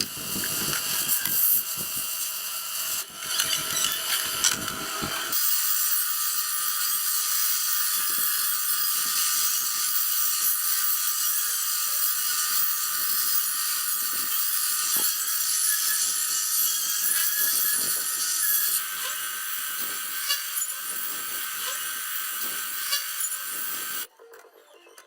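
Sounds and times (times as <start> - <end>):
tool high-pitched whir: 0.0 - 24.1.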